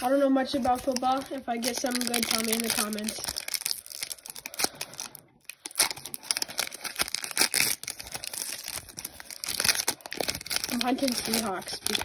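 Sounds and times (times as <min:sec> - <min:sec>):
foil wrapper tearing and crinkling: 0:00.5 - 0:12.0.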